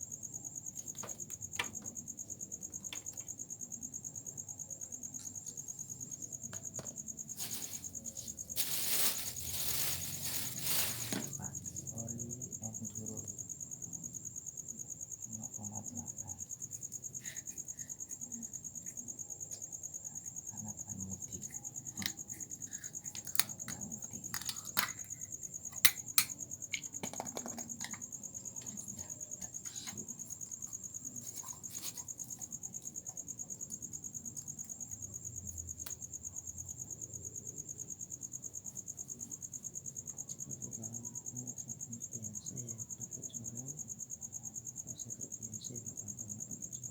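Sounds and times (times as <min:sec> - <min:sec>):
cricket trilling: 0:00.0 - 0:46.9.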